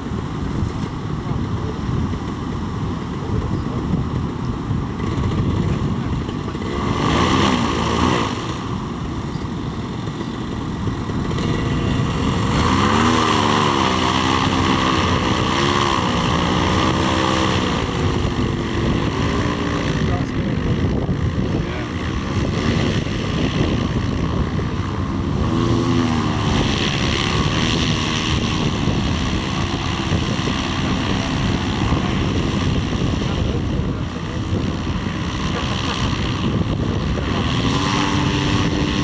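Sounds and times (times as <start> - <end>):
engine and propeller revving: 0.0 - 39.0
wind buffeting microphone: 0.0 - 39.0.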